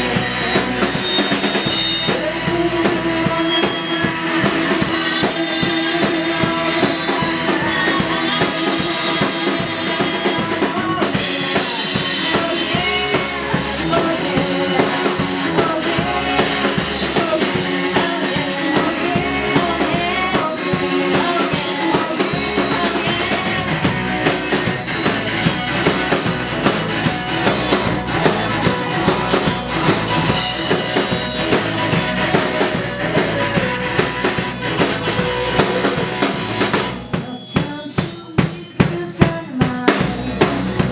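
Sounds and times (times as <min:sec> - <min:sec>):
bass guitar: 0:00.0 - 0:37.7, 0:39.7 - 0:40.9
drum kit: 0:00.0 - 0:40.9
electric guitar: 0:00.0 - 0:40.9
person singing: 0:00.0 - 0:40.9.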